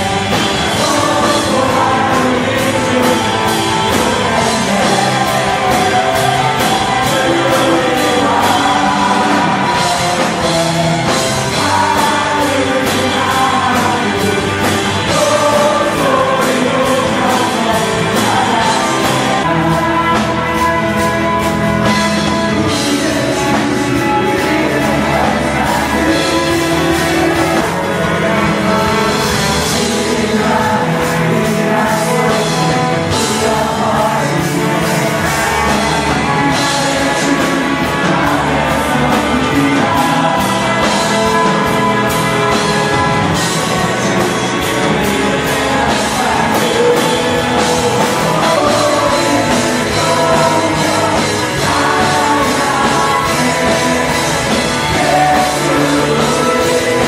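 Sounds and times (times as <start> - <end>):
band music with singing: 0.0 - 57.0.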